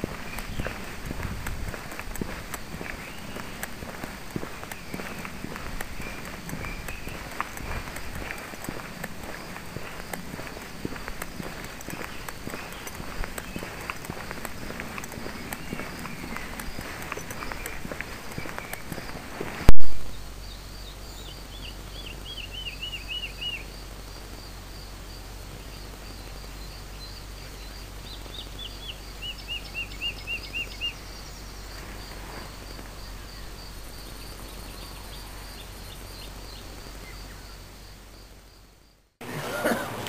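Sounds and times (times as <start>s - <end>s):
songbird chirping: 0.0s - 40.0s.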